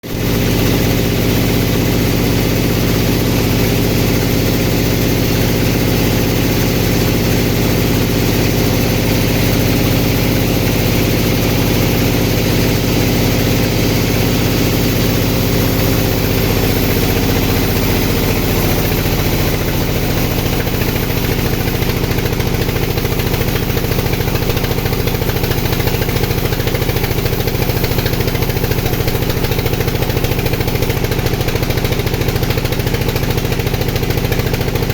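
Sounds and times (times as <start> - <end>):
sawmill engine running: 0.0 - 34.9.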